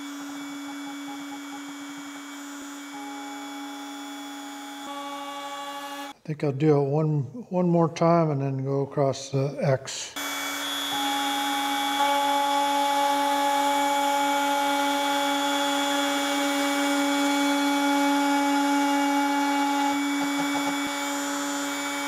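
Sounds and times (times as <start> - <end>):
router whining: 0.0 - 6.2, 10.2 - 22.0.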